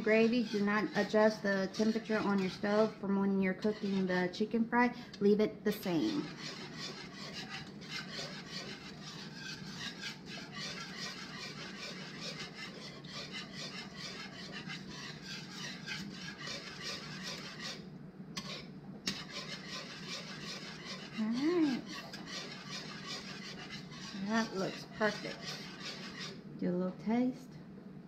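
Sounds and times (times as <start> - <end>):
whisk scraping metal saucepan: 0.0 - 26.5.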